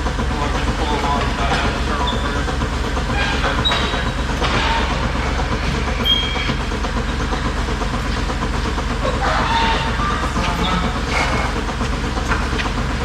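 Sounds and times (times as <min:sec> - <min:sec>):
milking machine humming: 0:00.0 - 0:13.0
noisy wash: 0:00.0 - 0:13.0.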